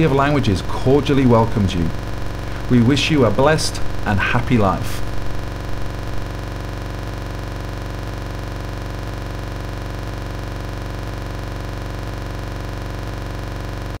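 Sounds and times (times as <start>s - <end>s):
synthesizer drone: 0.0s - 14.0s.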